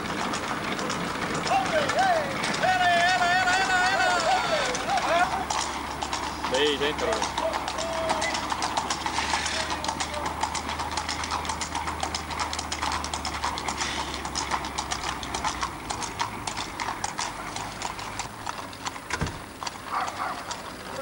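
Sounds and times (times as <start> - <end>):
horse hooves on asphalt: 0.0 - 21.0.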